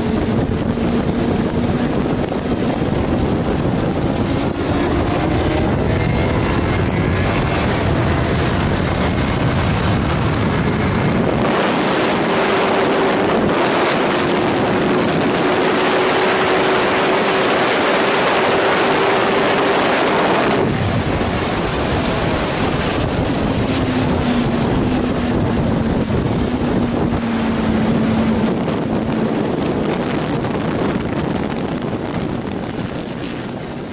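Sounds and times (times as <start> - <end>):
motorcycle engine at speed: 0.0 - 33.9
wind rush on microphone: 0.0 - 33.9.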